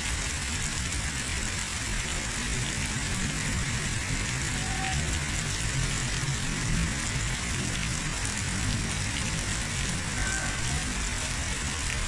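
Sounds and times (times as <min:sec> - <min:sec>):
floodwater pouring over a wall: 0:00.0 - 0:12.0
heavy rain: 0:00.0 - 0:12.0.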